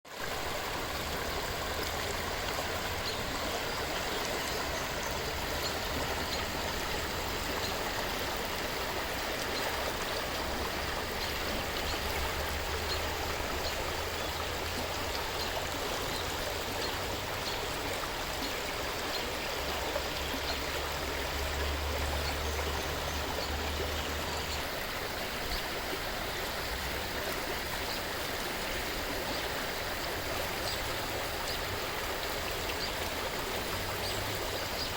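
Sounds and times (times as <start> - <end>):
river water flowing: 0.1 - 34.9.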